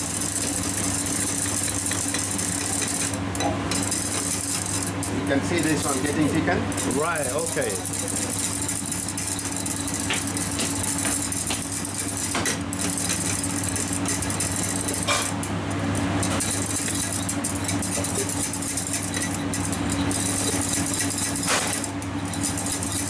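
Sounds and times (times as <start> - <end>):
steady machine hum: 0.0 - 23.0
whisk stirring in metal saucepan: 0.0 - 23.0.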